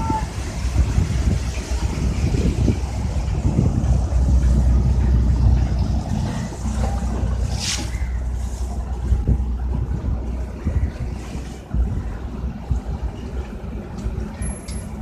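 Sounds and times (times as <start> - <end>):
boat engine rumble: 0.0 - 15.0
wind buffeting microphone: 0.0 - 15.0.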